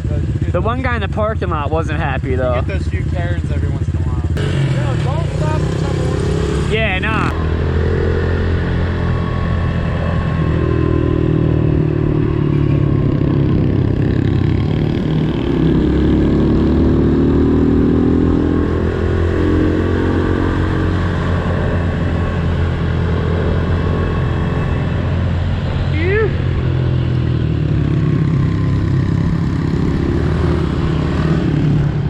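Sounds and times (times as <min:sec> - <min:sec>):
pit bike engines revving: 0:00.0 - 0:32.0.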